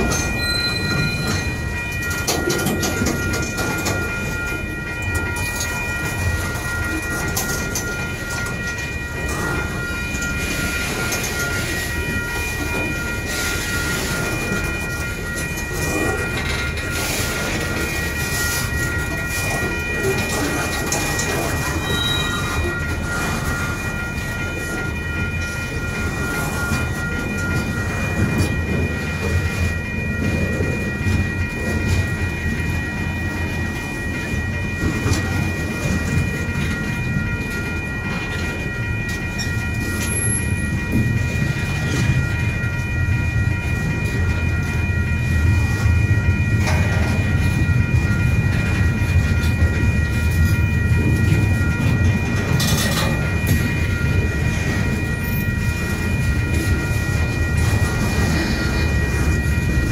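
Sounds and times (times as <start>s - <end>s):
freight train wheels rumbling: 0.0s - 59.9s
steady high-pitched tones: 0.0s - 59.9s.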